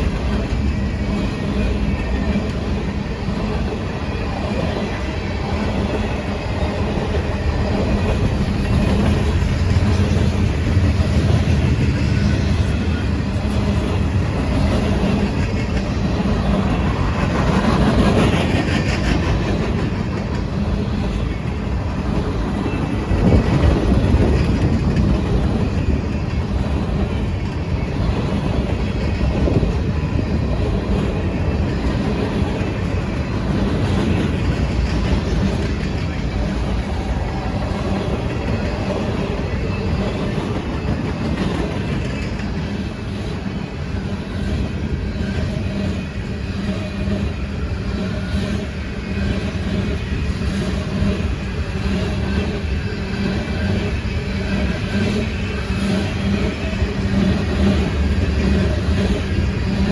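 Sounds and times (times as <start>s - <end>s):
train wheels clicking on rails: 0.0s - 59.9s.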